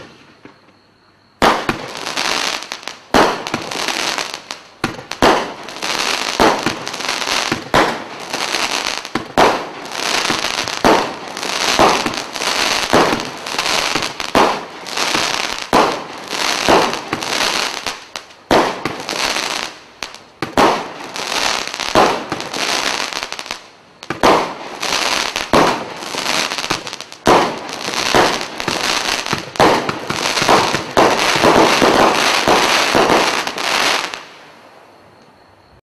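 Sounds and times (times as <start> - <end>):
firework bangs: 0.0 - 0.8, 1.4 - 34.4
firework crackling: 1.4 - 34.6.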